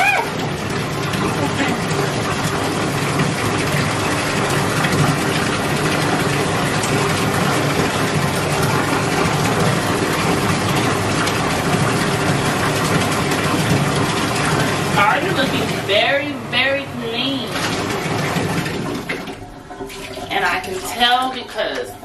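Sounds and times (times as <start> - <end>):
water running from bathtub tap: 0.0 - 22.0
water splashing: 0.0 - 22.0.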